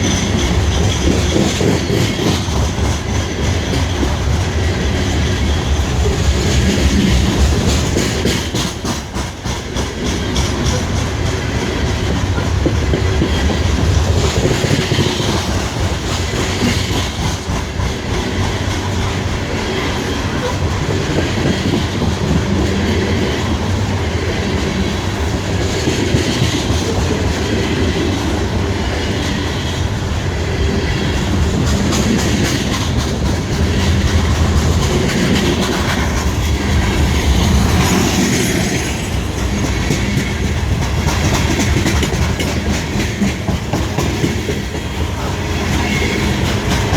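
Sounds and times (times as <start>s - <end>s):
clickety-clack over rail joints: 0.0s - 46.9s
train wheels rumbling on rails: 0.0s - 46.9s.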